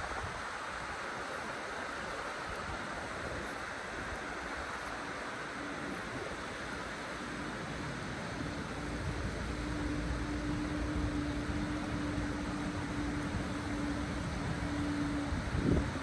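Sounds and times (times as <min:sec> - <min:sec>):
river rushing: 0:00.0 - 0:16.0
steady low hum: 0:00.0 - 0:16.0
wind buffeting microphone: 0:00.0 - 0:16.0.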